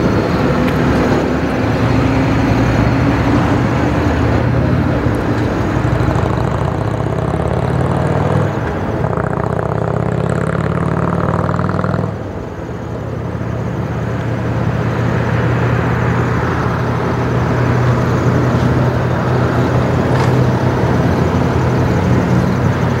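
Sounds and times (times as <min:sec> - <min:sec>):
motor vehicle engines running: 0:00.0 - 0:23.0.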